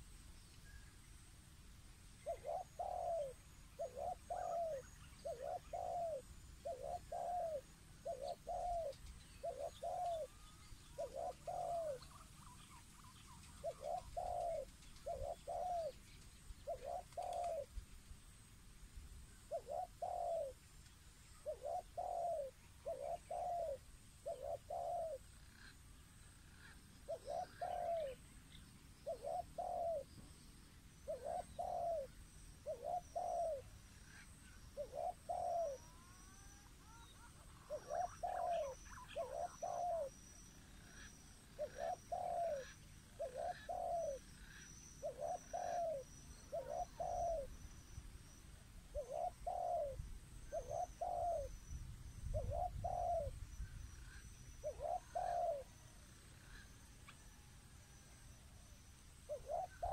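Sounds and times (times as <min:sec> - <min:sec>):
dove cooing: 0:02.2 - 0:16.0, 0:16.6 - 0:17.8, 0:19.4 - 0:20.6, 0:21.4 - 0:25.8, 0:26.5 - 0:28.2, 0:29.0 - 0:30.1, 0:31.0 - 0:47.6, 0:48.8 - 0:51.6, 0:52.2 - 0:53.4, 0:54.1 - 0:58.0, 0:59.2 - 0:59.9.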